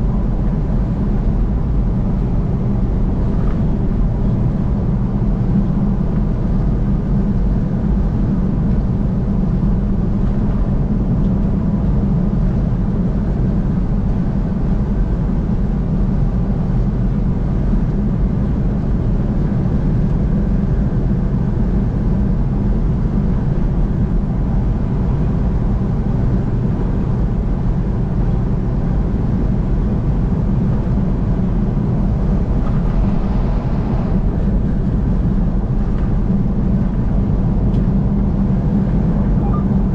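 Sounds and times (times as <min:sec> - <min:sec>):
vehicle road and engine noise: 0:00.0 - 0:39.9.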